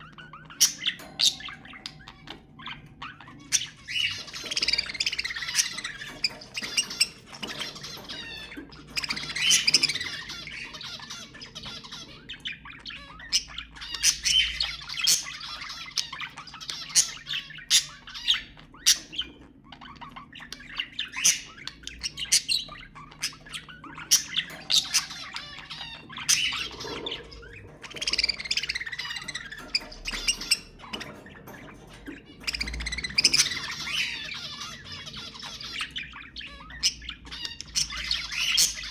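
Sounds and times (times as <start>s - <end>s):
bird squawks: 0.0s - 38.9s
budgerigars chattering: 0.0s - 38.9s.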